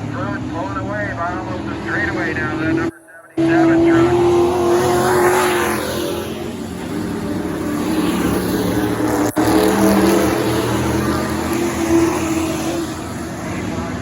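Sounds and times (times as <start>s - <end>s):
race truck engines at speed: 0.0s - 14.0s.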